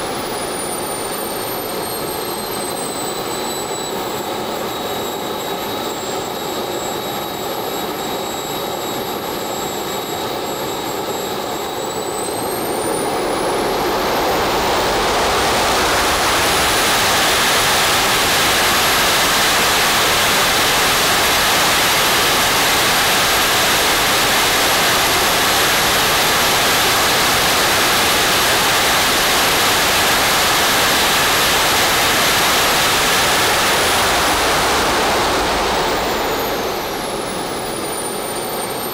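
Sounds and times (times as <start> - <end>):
small turbine jet engine whining: 0.0 - 38.9.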